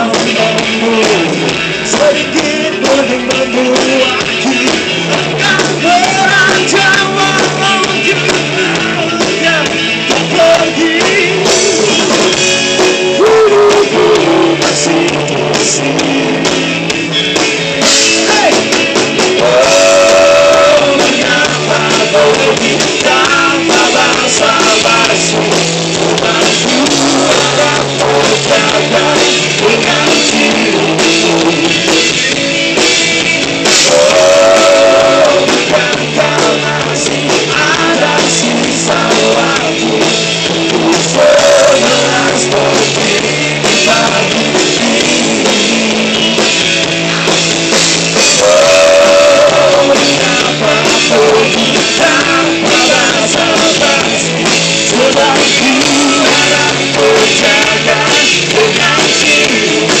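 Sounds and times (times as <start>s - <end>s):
singer's vocals: 0.0s - 16.8s, 17.9s - 32.8s, 33.6s - 46.4s, 48.2s - 60.0s
bass guitar: 0.0s - 60.0s
drum kit: 0.0s - 60.0s
electric guitar: 0.0s - 60.0s.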